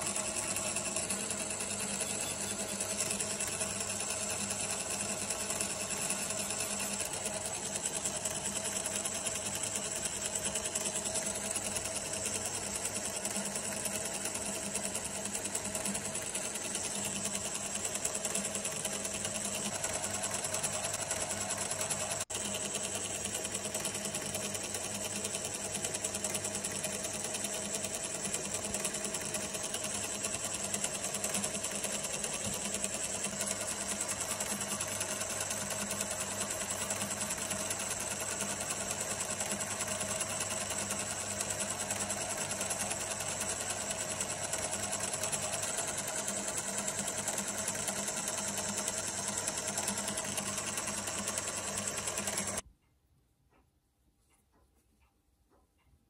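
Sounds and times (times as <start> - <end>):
lathe motor humming and whining: 0.0 - 52.6.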